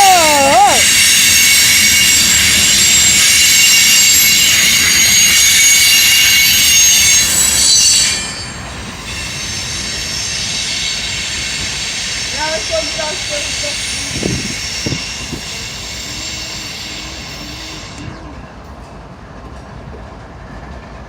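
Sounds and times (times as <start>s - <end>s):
train wheels squealing on rails: 0.0s - 19.2s
loud rail noise: 0.0s - 21.0s.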